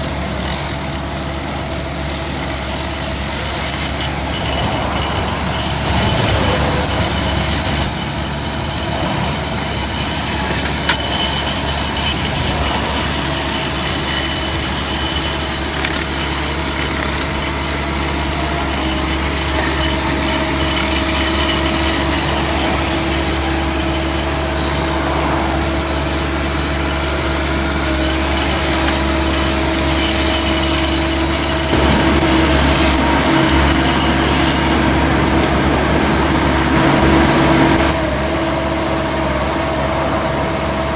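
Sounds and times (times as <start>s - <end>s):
tractor engine running with mower whine: 0.0s - 40.9s.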